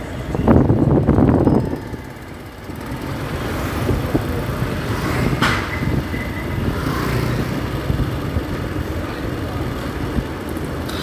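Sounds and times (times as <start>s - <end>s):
road and wind noise: 0.0s - 11.0s
motorcycle engine running: 0.6s - 11.0s.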